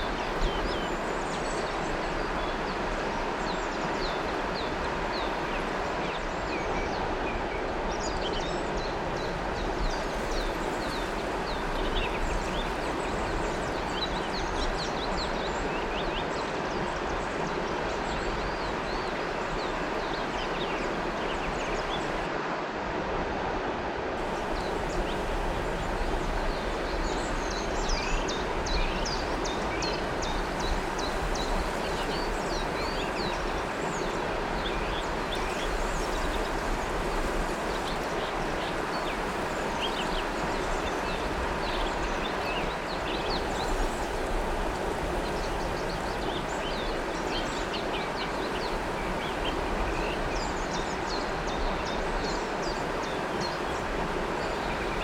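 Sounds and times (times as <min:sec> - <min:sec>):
birds chirping and twittering: 0:00.0 - 0:22.3, 0:24.2 - 0:55.0
river water rushing: 0:00.0 - 0:55.0.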